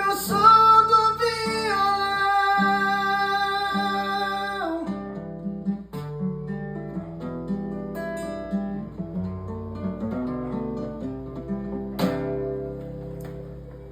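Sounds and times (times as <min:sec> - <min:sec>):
acoustic guitar playing: 0:00.0 - 0:13.9.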